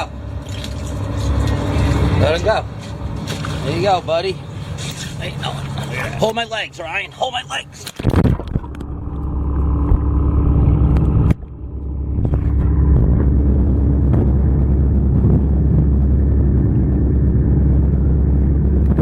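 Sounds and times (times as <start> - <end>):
engine droning hum: 0.0 - 19.0.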